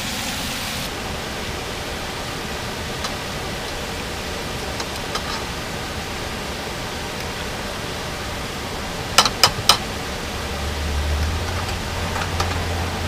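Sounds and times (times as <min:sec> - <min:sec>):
fish frying hiss: 0:00.0 - 0:13.0.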